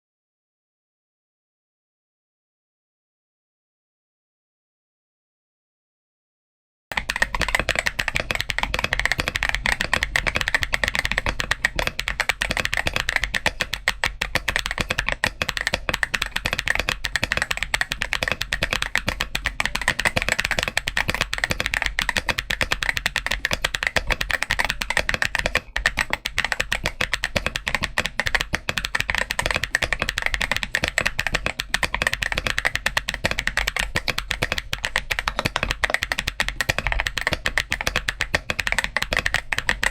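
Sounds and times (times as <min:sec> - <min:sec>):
fast typing on mechanical keyboard: 0:06.9 - 0:39.9.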